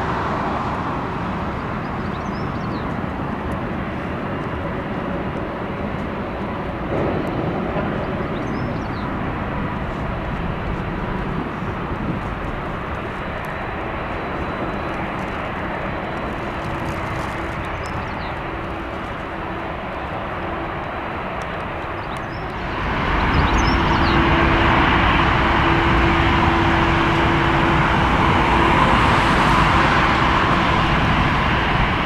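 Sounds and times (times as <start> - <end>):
jet engines taking off: 0.0 - 32.0.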